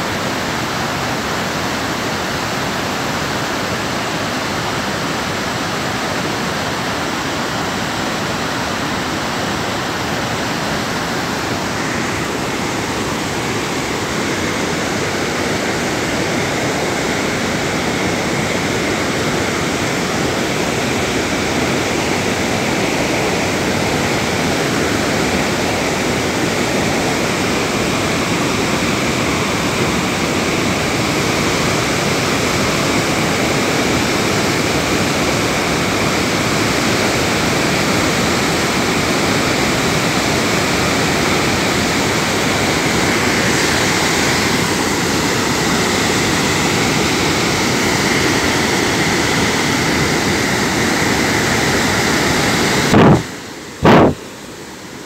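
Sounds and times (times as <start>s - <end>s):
loud steady rushing noise: 0.0s - 55.0s.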